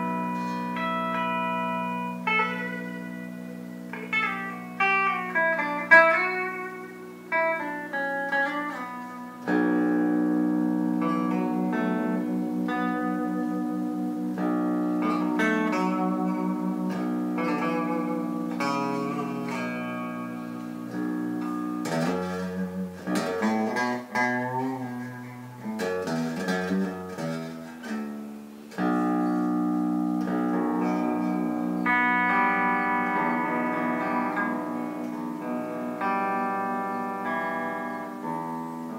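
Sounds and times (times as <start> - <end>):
clean electric guitar: 0.0 - 38.9.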